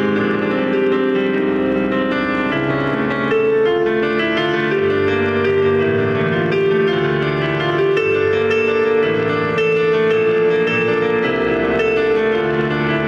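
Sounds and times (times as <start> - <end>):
slow solo keyboard music: 0.0 - 13.0.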